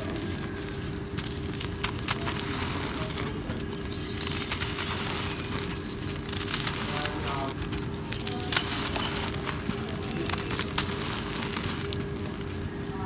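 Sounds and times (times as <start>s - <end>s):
grit falling: 0.0s - 13.0s
hands crumbling dry cement: 0.0s - 13.0s.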